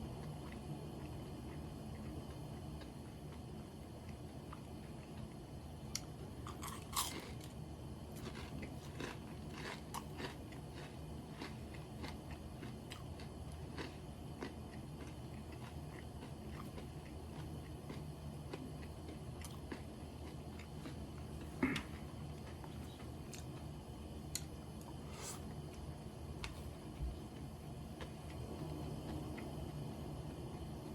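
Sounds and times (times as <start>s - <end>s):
crunchy chewing of fried chicken: 0.0s - 30.8s
steady low hum: 0.0s - 30.9s.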